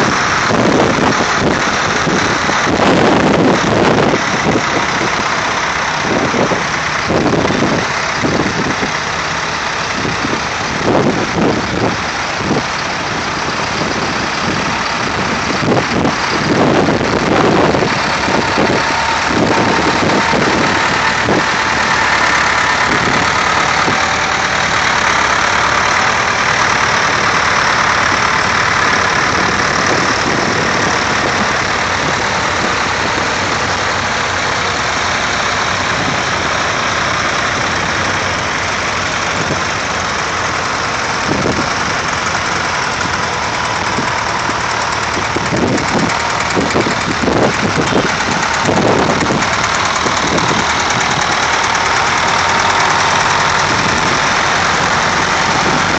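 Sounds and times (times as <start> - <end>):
tractor engines clattering: 0.0 - 55.9.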